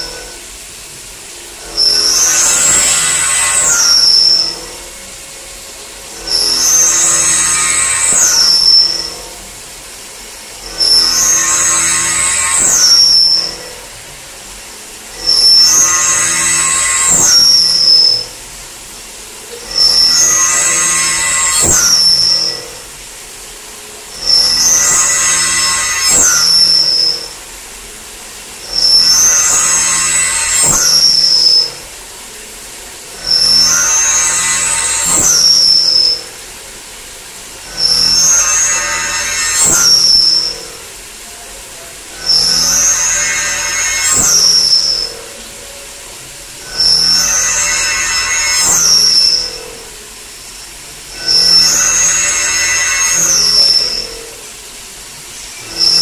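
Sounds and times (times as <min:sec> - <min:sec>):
high-pitched milling cutter squeal: 0:00.0 - 0:56.0
high-pitched screeching metal cuts: 0:00.0 - 0:56.0
spindle and coolant sound: 0:00.0 - 0:56.0
steady high machine whine: 0:00.0 - 0:56.0.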